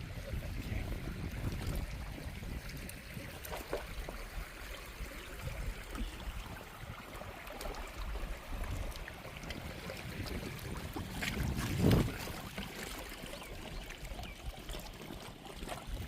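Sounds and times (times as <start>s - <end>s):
river water rippling: 0.0s - 16.0s.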